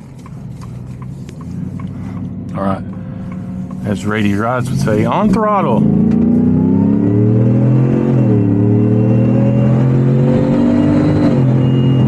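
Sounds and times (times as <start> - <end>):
pickup engine accelerating: 0.0 - 12.0.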